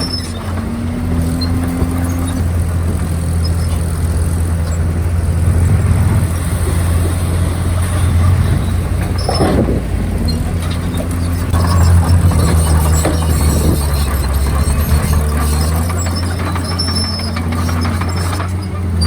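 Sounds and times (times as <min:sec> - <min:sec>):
bulldozer diesel engine running: 0:00.0 - 0:19.0
scraping burst: 0:00.0 - 0:19.0.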